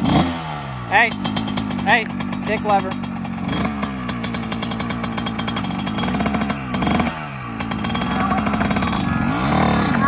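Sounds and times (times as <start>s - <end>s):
two-stroke motorcycle engine revving: 0.0s - 10.0s.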